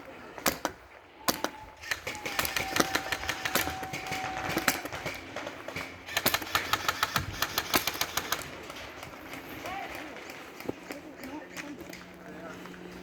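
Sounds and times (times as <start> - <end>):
airsoft guns firing rapidly: 0.2 - 12.2.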